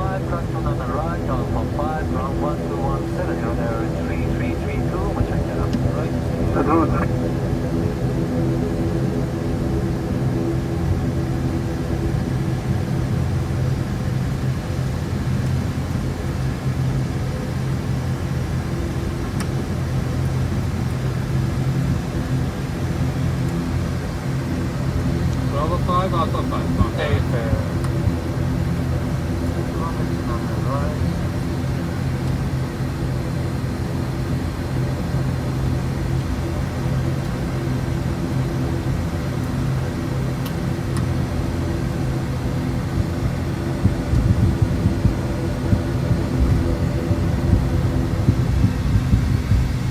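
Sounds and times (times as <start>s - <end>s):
turboprop engines droning: 0.0s - 49.9s.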